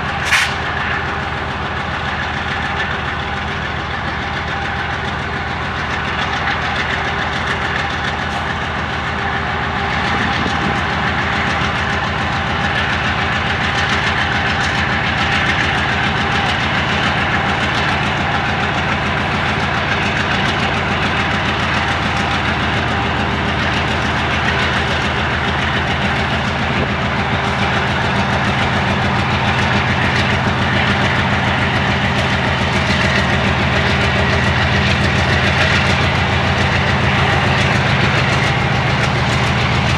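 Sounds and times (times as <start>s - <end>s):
locomotive diesel engine throbbing: 0.0s - 39.9s.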